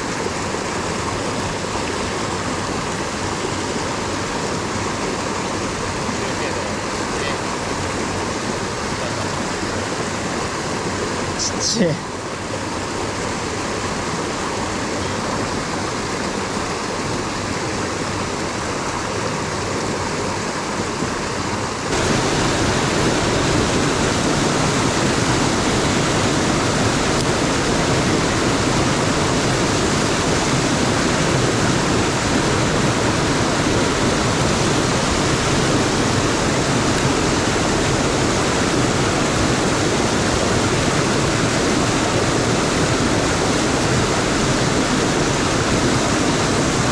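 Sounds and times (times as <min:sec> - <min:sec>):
stream rushing over rocks: 0:00.0 - 0:46.9.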